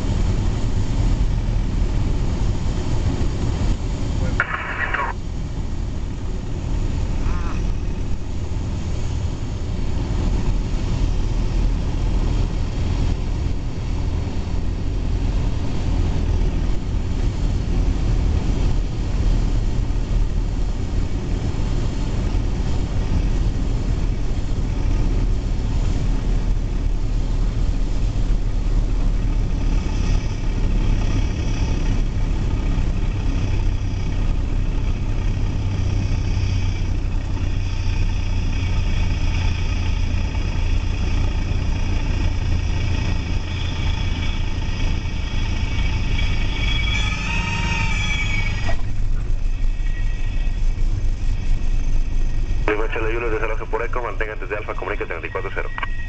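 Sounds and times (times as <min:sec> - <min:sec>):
propeller aircraft engine running: 0:00.0 - 0:56.0.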